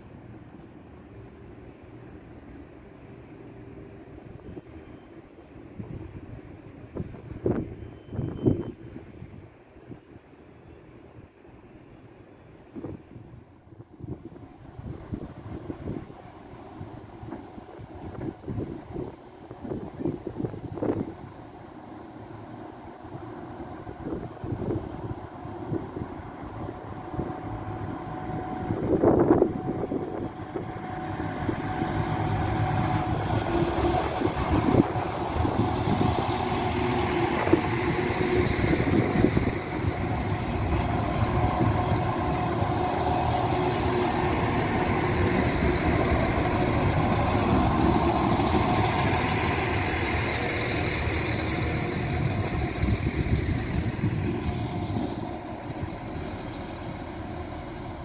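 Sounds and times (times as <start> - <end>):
diesel train engines passing: 0.0 - 58.0.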